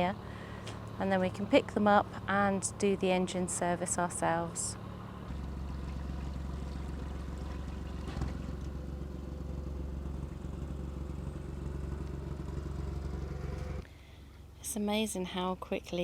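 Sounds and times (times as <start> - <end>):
boat diesel engine drone: 0.0 - 16.0.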